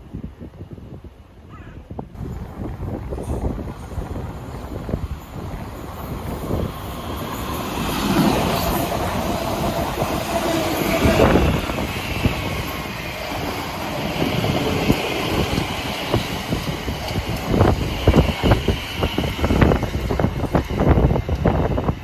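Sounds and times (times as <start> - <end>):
train running along tracks: 0.0 - 22.0.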